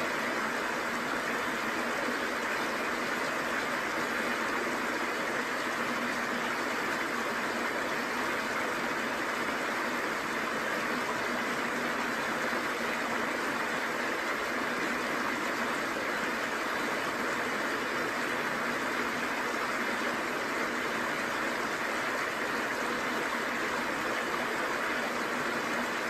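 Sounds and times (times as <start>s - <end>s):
waterfall and creek rushing: 0.0s - 26.0s.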